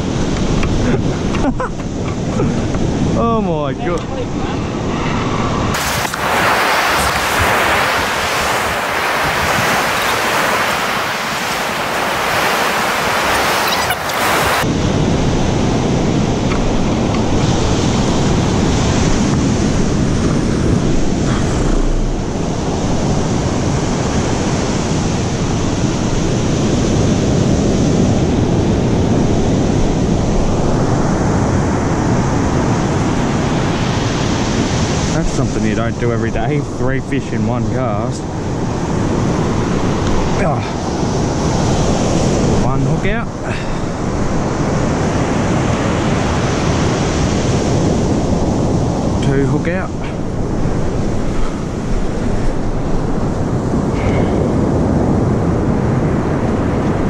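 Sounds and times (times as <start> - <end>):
ocean surf breaking: 0.0 - 57.0
wind rumbling on microphone: 0.0 - 57.0.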